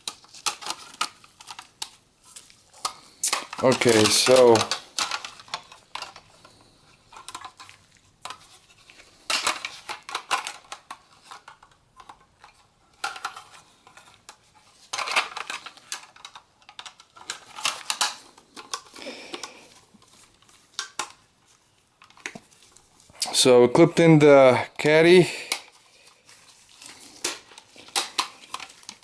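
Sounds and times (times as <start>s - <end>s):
plastic caddies clicking and rattling: 0.0s - 23.4s, 24.0s - 29.0s.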